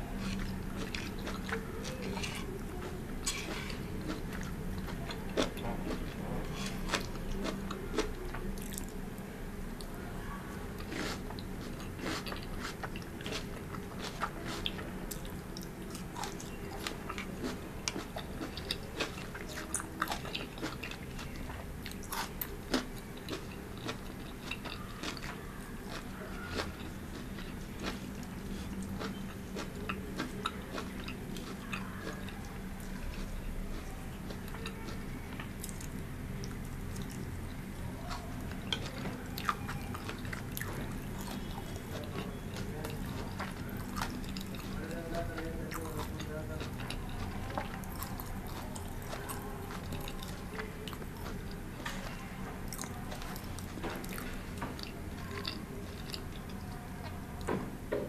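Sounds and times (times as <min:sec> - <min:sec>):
chewing crunchy food: 0:00.0 - 0:09.1, 0:10.7 - 0:57.6.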